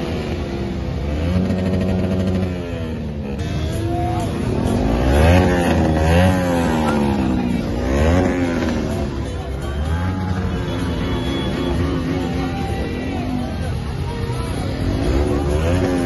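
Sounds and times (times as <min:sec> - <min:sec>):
crowd noise: 0:00.0 - 0:16.0
motorcycle engines revving: 0:00.0 - 0:16.0.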